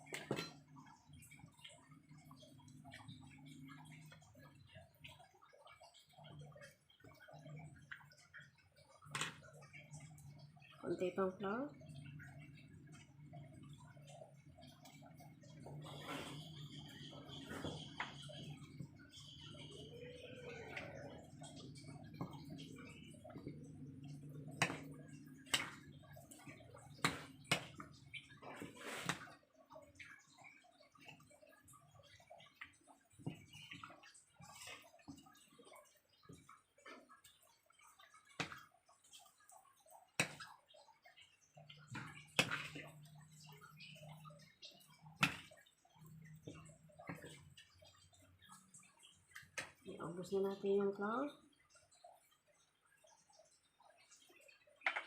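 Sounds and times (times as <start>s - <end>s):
hands squishing wet batter: 0.0s - 55.0s.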